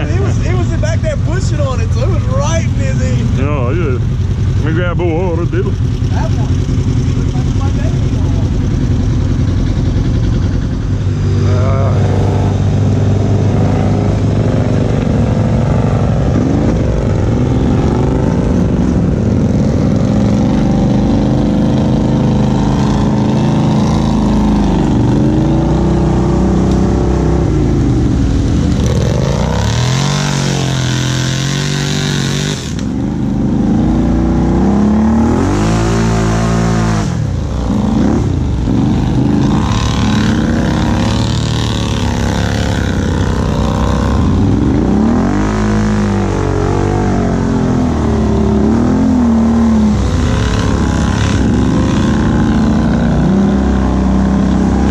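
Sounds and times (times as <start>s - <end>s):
quad bike engine revving: 0.0s - 54.9s.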